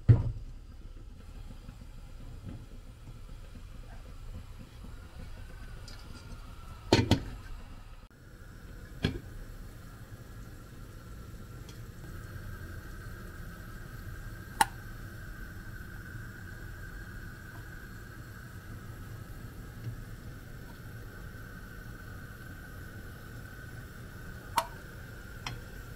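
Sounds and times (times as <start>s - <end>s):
pot of broth rumbling on a burner: 0.0s - 25.9s.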